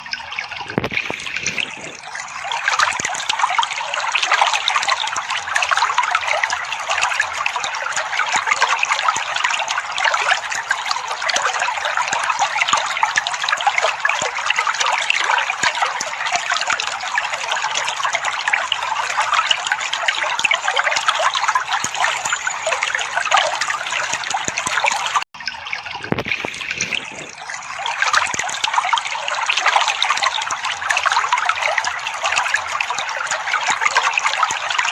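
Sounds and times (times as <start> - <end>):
water trickling: 0.0 - 34.9.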